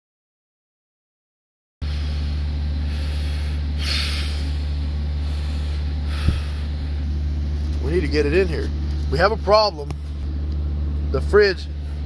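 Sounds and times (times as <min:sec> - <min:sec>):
diesel truck engine idling: 0:01.8 - 0:12.0.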